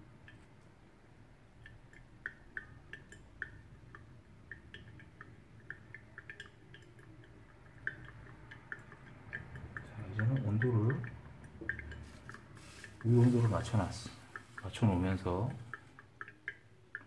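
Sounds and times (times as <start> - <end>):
coffee dripping plinks: 0.0 - 17.0.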